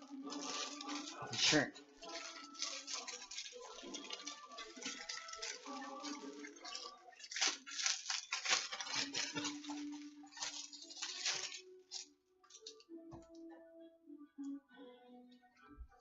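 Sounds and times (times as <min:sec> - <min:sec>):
packaging crinkling: 0:00.0 - 0:12.8.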